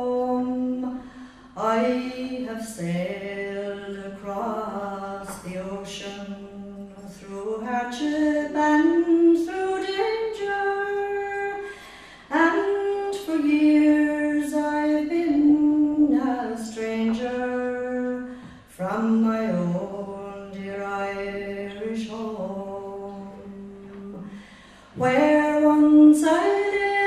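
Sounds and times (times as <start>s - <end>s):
woman singing unaccompanied: 0.0s - 11.7s, 12.3s - 27.0s.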